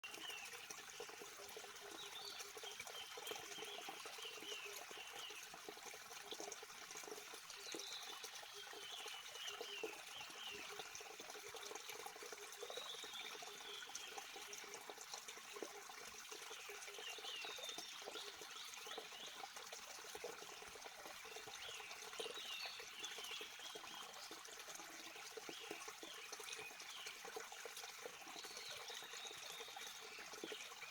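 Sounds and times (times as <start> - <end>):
water flowing: 0.0 - 30.9.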